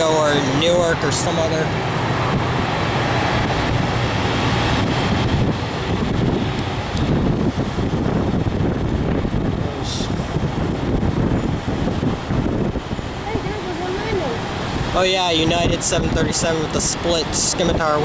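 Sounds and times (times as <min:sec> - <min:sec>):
jet engines running: 0:00.0 - 0:18.0
wind buffeting microphone: 0:00.0 - 0:18.0.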